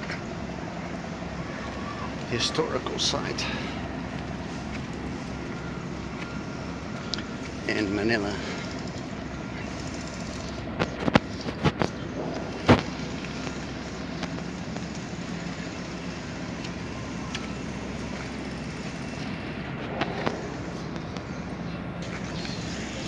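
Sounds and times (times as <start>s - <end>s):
distant traffic hum: 0.0s - 23.0s.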